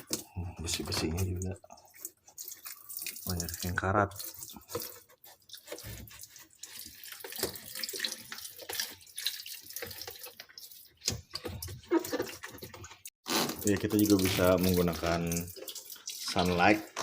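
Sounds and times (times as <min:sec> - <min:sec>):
tap water running and splashing: 0:00.0 - 0:17.0.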